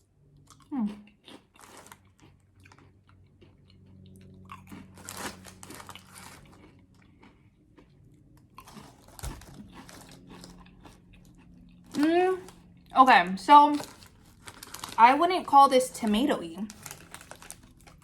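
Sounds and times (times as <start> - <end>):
person chewing crisp chips: 0.0 - 15.6, 16.2 - 18.0.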